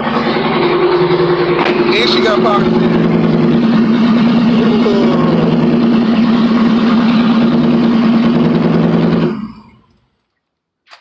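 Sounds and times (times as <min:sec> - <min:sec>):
truck engine idling loudly: 0:00.0 - 0:09.9.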